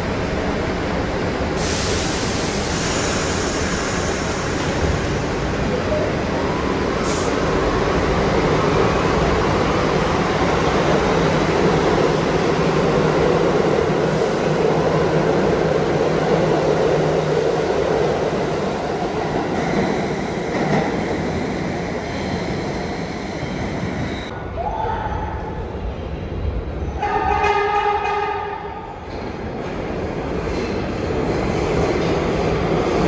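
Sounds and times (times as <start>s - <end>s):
subway train running: 0.0s - 33.0s.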